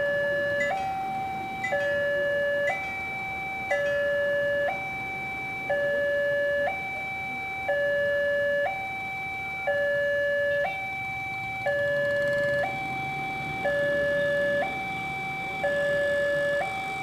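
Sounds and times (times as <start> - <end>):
electronic level crossing alarm: 0.0 - 17.0.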